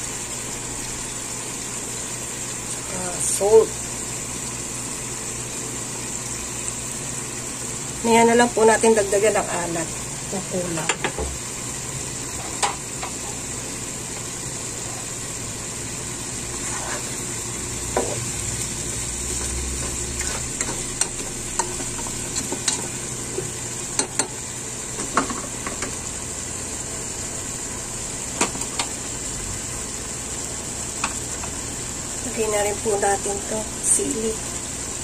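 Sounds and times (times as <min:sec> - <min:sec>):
food sizzling in a pot: 0:00.0 - 0:35.0.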